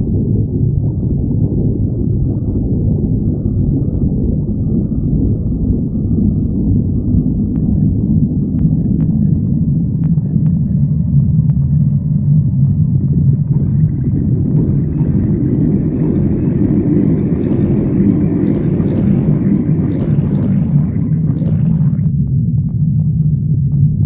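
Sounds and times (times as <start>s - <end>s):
stomach growling: 0.0s - 24.0s.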